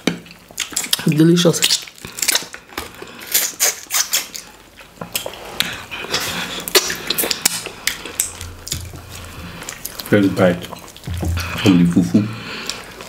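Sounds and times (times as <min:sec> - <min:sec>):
wet mouth smacks chewing: 0:00.0 - 0:11.8, 0:12.4 - 0:13.0.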